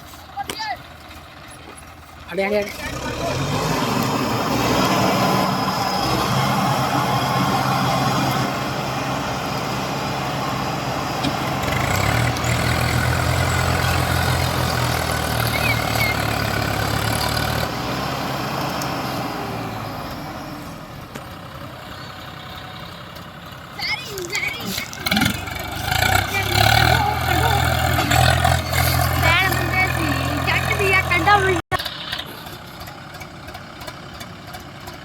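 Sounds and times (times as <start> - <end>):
diesel tractor engine running: 0.0 - 35.0.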